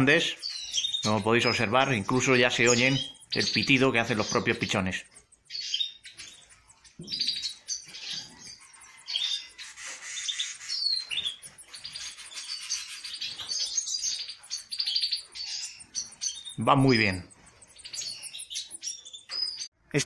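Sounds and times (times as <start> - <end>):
nestlings begging cheeps: 0.0 - 20.0.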